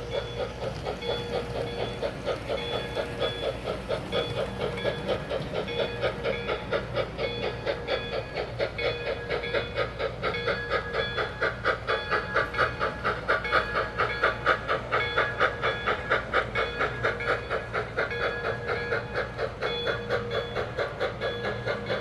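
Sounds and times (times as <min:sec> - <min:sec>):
model steam locomotive chuffing: 0:00.0 - 0:22.0.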